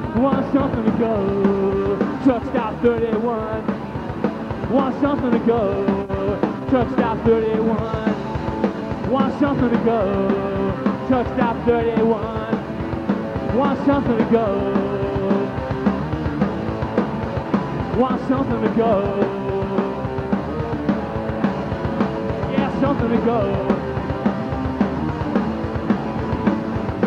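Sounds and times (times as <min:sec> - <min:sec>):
bass guitar: 0:00.0 - 0:27.0
drums: 0:00.0 - 0:27.0
electric guitars: 0:00.0 - 0:27.0.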